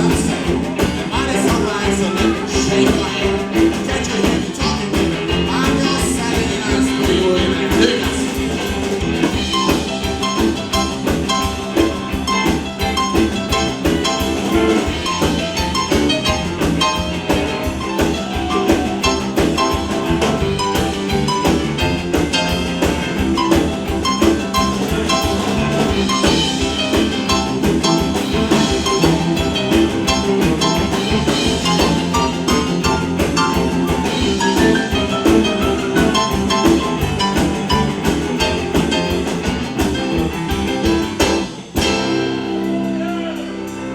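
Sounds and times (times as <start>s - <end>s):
drum kit beat: 0.0s - 43.9s
rock and roll band playing: 0.0s - 43.9s.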